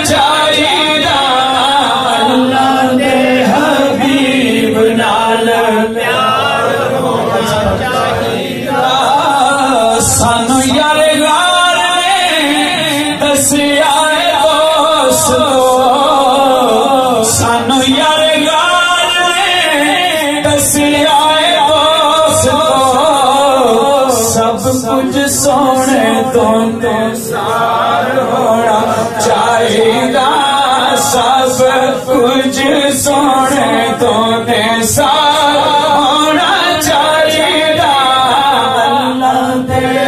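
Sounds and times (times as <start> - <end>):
man singing unaccompanied: 0.0 - 8.0, 8.6 - 40.0.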